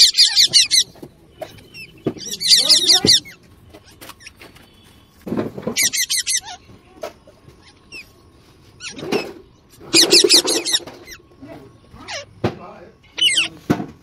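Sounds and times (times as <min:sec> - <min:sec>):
parrot chattering and squawking: 0:00.0 - 0:04.6, 0:05.6 - 0:12.4, 0:13.0 - 0:13.7.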